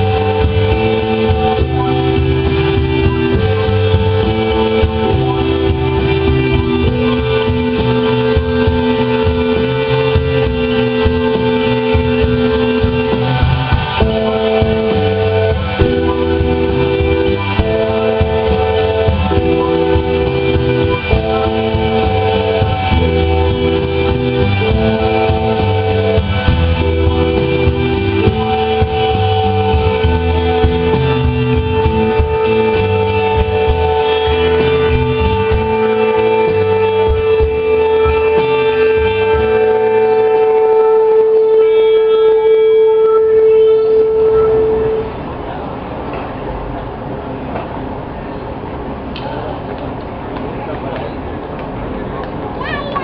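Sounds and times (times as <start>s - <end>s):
rock band playing live: 0.0s - 45.3s.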